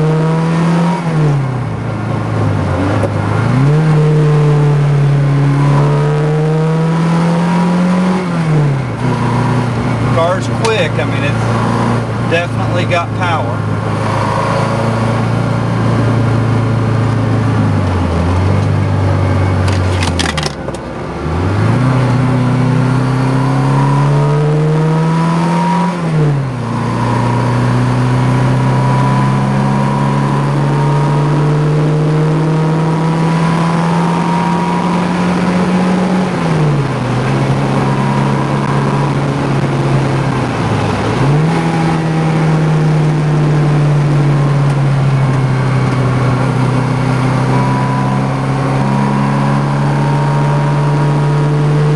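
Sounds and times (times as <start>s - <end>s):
car engine accelerating through gears: 0.0s - 51.9s.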